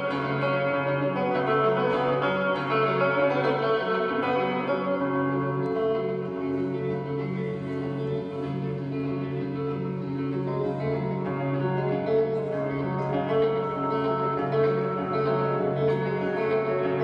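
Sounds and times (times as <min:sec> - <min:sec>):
ringing guitar notes: 0:00.0 - 0:17.0.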